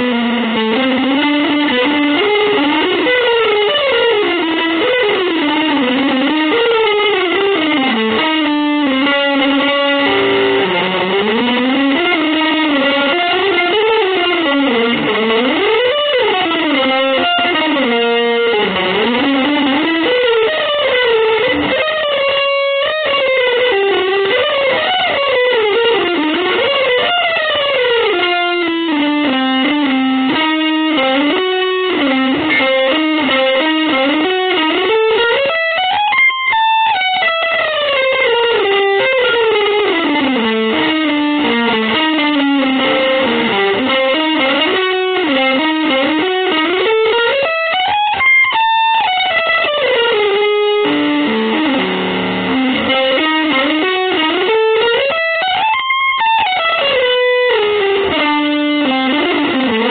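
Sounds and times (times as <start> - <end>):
electric guitar fast runs: 0.0 - 59.9.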